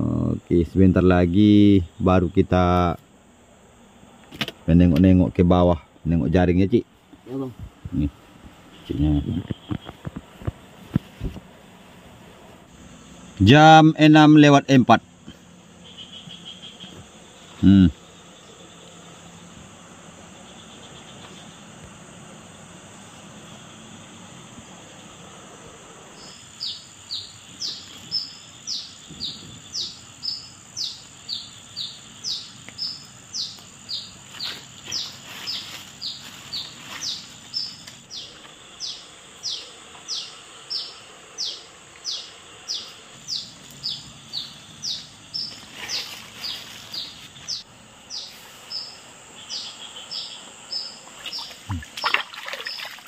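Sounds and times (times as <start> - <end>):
background hiss: 0.0 - 53.0.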